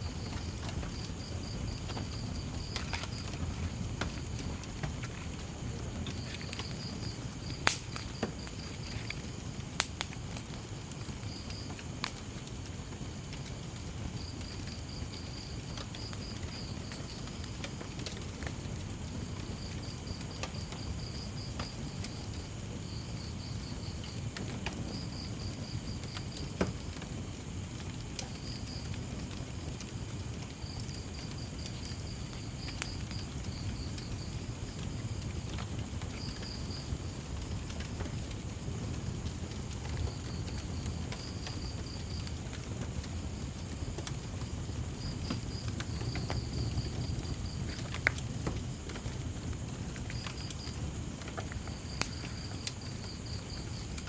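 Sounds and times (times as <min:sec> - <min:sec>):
cricket chirping: 0:00.0 - 0:54.0
wood fire crackling and popping: 0:00.0 - 0:54.0.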